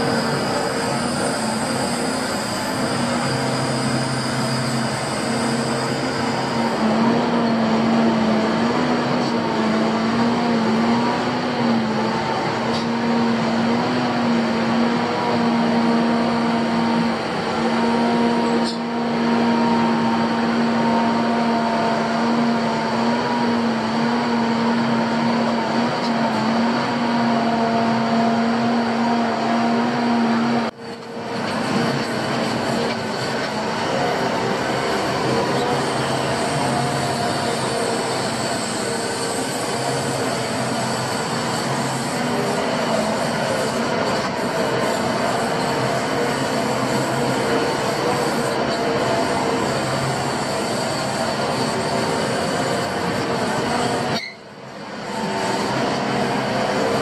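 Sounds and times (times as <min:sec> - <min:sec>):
fainter higher whine: 0:00.0 - 0:57.0.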